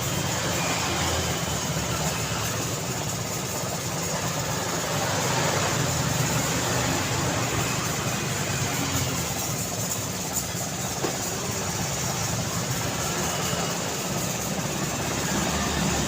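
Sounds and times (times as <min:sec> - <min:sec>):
traffic hum: 0:00.0 - 0:16.0
vehicle engines running and idling: 0:00.0 - 0:16.0.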